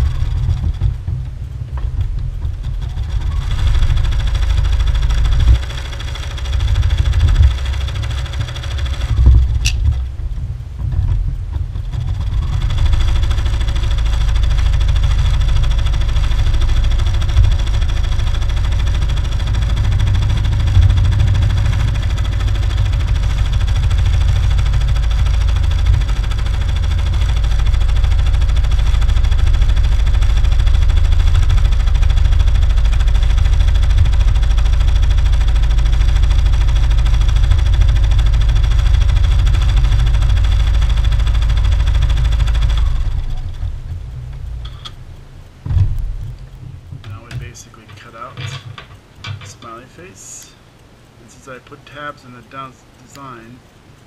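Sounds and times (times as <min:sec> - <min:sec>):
needle working through fabric: 0:00.0 - 0:50.5
embroidery machine humming: 0:00.0 - 0:54.0.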